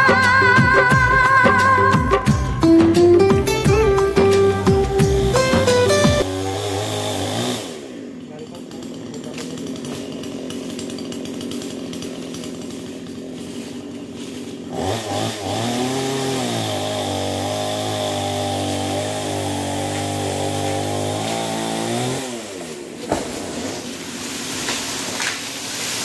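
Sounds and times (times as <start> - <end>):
chainsaw revving: 0.0 - 26.0.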